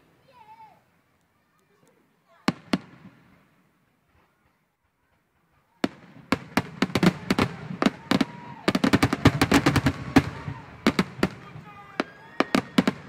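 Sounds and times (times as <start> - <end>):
fireworks bursting with sharp bangs: 2.2 - 13.0.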